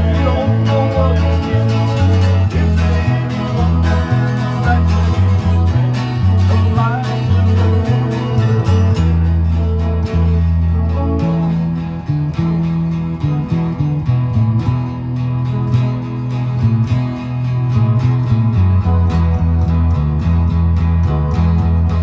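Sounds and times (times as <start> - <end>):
acoustic guitars strumming: 0.0 - 22.0
electric guitar: 0.0 - 22.0
low bass notes: 0.0 - 22.0.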